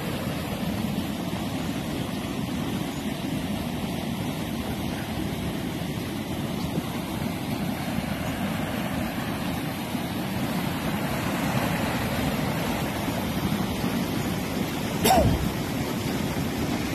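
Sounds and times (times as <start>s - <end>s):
floodwater rushing: 0.0s - 16.9s.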